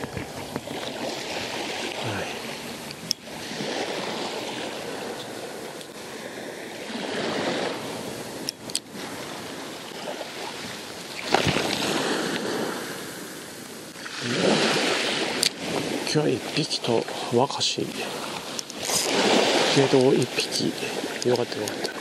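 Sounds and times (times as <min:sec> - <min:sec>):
small waves washing onto shore: 0:00.0 - 0:22.0.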